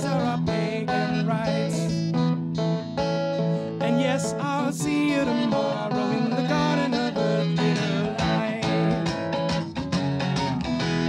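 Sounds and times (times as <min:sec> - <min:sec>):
second guitar in steady rhythm: 0:00.0 - 0:11.0
strummed acoustic guitar: 0:00.0 - 0:11.0.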